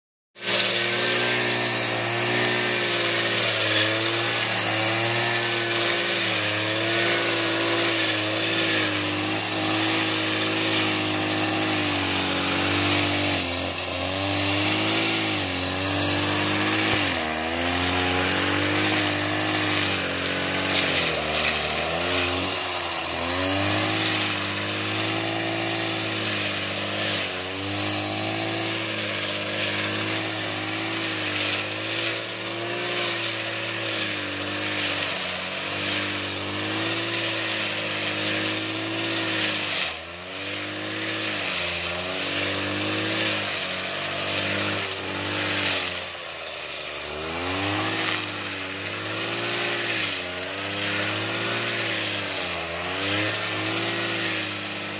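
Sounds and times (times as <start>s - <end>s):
brush cutter engine cutting grass: 0.4s - 54.9s.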